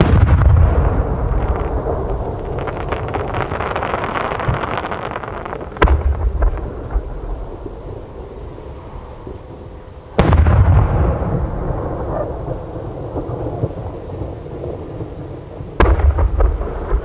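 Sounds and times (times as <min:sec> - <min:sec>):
firework shells booming: 0:00.0 - 0:08.2, 0:10.2 - 0:17.0
echoes rumbling: 0:00.0 - 0:17.0
firework crack: 0:00.0 - 0:17.0.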